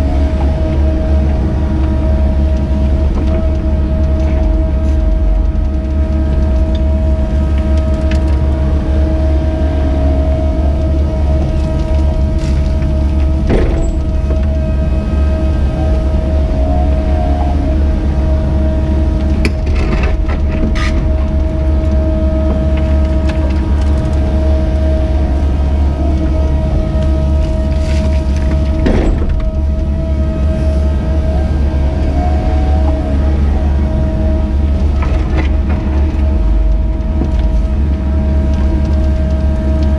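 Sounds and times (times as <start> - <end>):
excavator engine drone: 0.0 - 39.9
hydraulic whine: 0.0 - 39.9.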